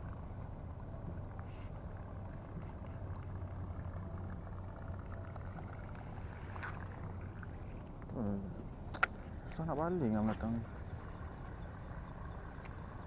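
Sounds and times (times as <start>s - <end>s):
low engine-like hum: 0.0s - 13.0s.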